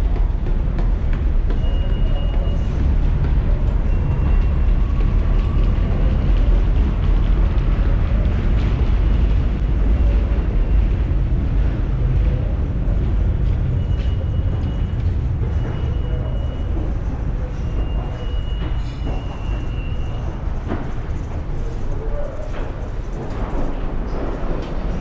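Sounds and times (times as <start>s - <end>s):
subway train rumbling: 0.0s - 25.0s.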